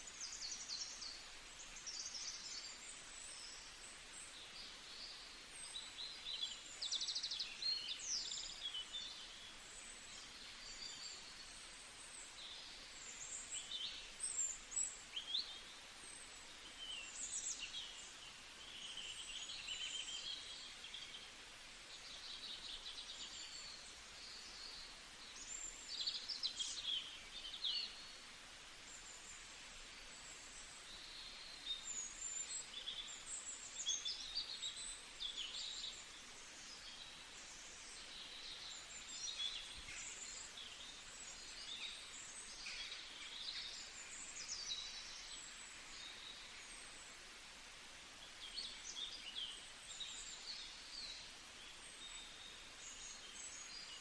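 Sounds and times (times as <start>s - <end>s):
faint background hiss: 0.0s - 54.0s
songbirds chirping and trilling: 0.0s - 54.0s.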